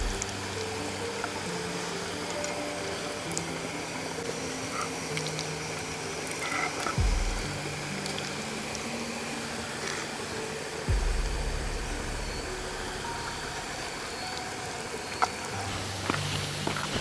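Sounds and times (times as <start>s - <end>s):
forest stream rushing: 0.0s - 17.0s.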